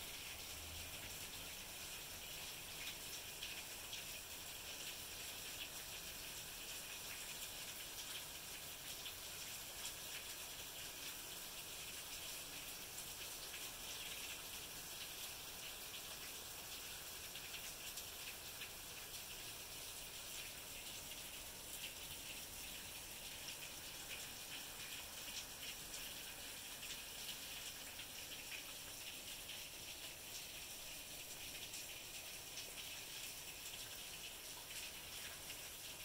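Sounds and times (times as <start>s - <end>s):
rain splashing on concrete: 0.0s - 36.0s.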